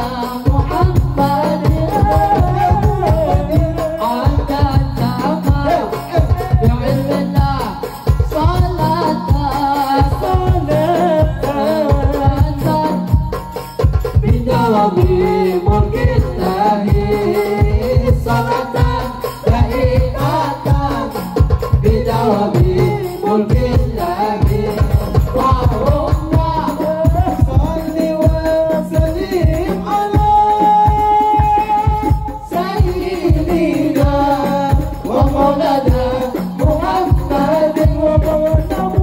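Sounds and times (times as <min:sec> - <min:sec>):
hand drums beating: 0:00.0 - 0:39.0
men singing through loudspeakers: 0:00.0 - 0:39.0.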